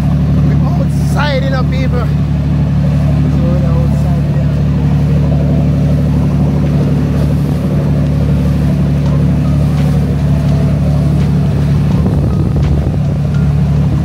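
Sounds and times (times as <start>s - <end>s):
motorboat engine droning: 0.0s - 14.0s.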